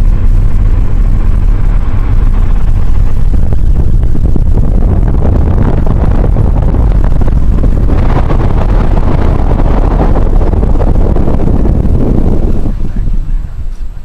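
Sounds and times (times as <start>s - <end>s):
car road rumble: 0.0s - 14.0s
wind buffeting microphone: 0.0s - 14.0s.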